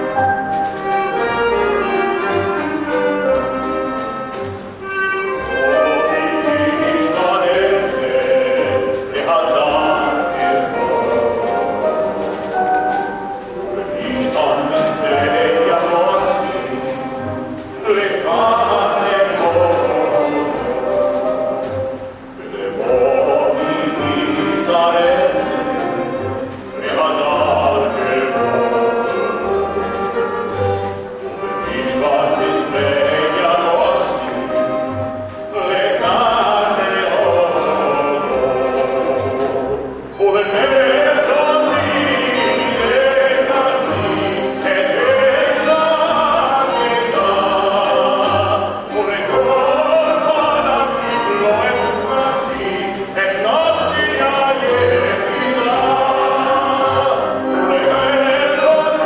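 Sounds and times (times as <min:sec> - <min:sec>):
voices singing together: 0:00.0 - 0:59.0.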